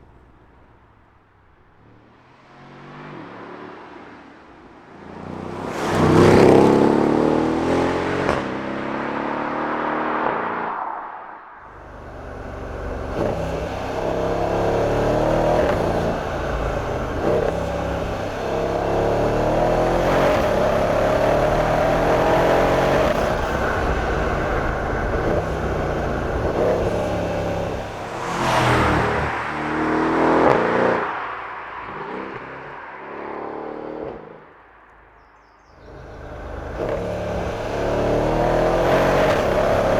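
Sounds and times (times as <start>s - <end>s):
car engine accelerating hard: 5.1s - 10.6s, 11.6s - 34.6s, 35.8s - 39.9s.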